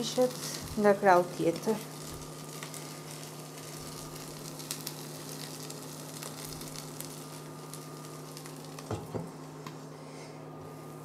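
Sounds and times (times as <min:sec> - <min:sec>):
pastry sizzling in a pan: 0:00.0 - 0:11.0.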